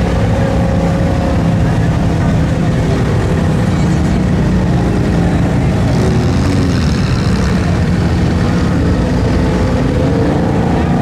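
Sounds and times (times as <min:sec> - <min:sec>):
truck engine running loud: 0:00.0 - 0:11.0.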